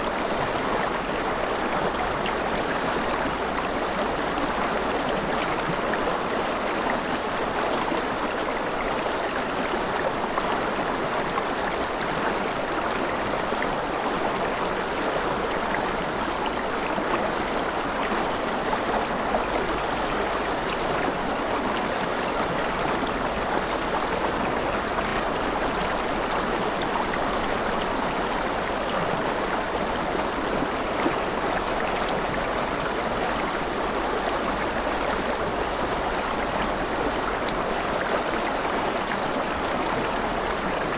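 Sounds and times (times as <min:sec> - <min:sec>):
river water flowing and splashing: 0:00.0 - 0:40.9.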